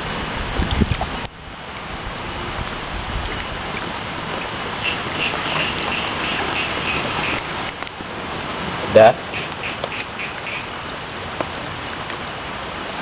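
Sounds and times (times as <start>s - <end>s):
water hissing and pattering: 0.0s - 13.0s.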